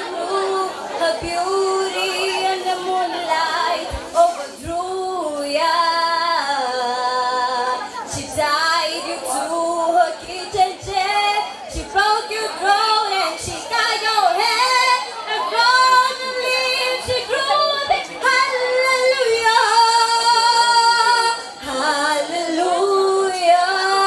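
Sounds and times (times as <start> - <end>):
girl singing into microphone: 0.0 - 24.0.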